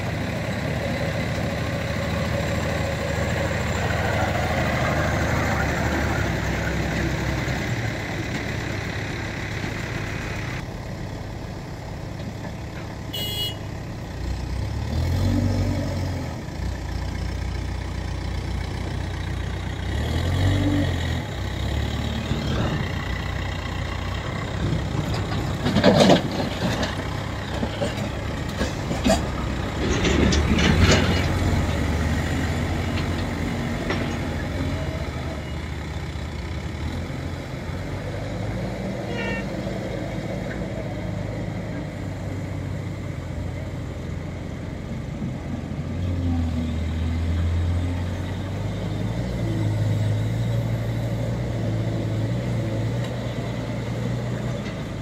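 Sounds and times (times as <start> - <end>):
diesel engine revving: 0.0 - 10.7, 13.2 - 55.0.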